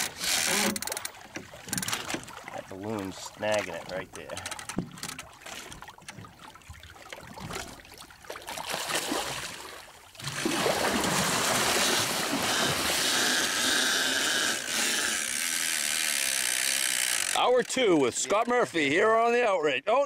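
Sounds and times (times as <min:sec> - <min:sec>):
churning splashing water: 0:00.0 - 0:19.3
water lapping: 0:00.0 - 0:19.3.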